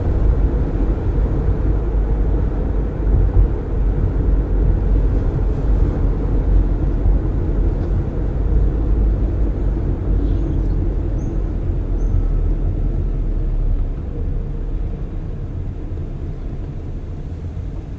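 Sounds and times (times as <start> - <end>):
car road noise: 0.0 - 17.9
wind through open windows: 0.0 - 17.9.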